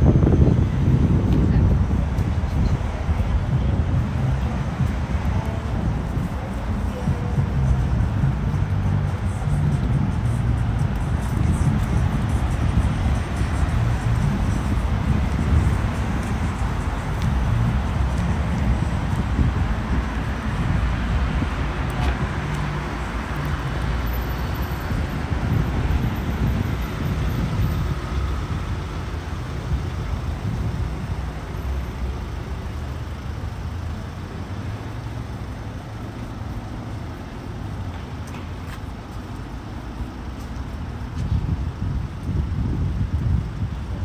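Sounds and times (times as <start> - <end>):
cars passing on street: 0.0 - 44.0.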